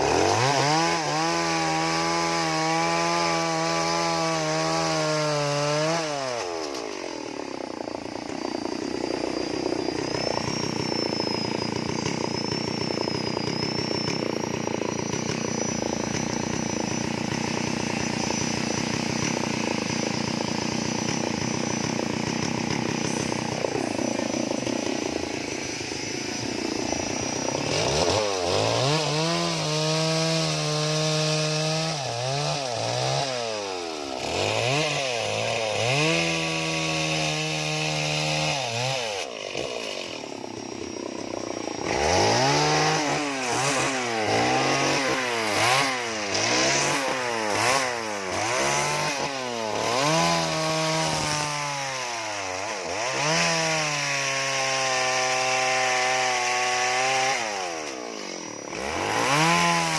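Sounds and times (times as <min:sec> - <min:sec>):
chainsaw carving wood: 0:00.0 - 0:59.9.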